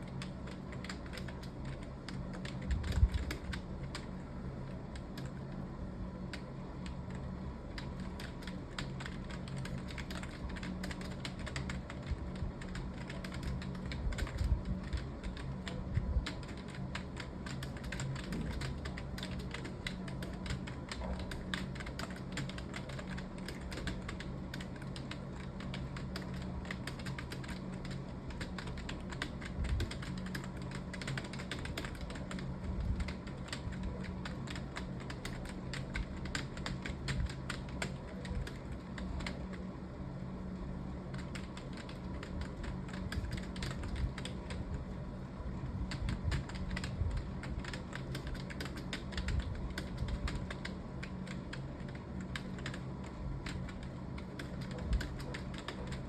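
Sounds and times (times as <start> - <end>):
fast keyboard typing: 0.0 - 39.7, 40.9 - 45.0, 45.6 - 56.0
steady low hum: 0.0 - 56.0.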